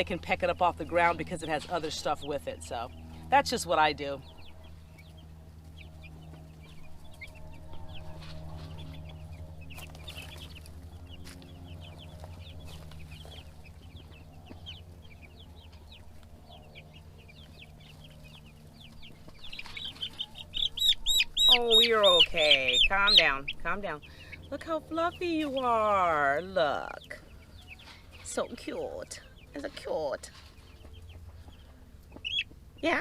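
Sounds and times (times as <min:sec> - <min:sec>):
chicks peeping: 0:00.0 - 0:33.0
low hum: 0:00.0 - 0:33.0.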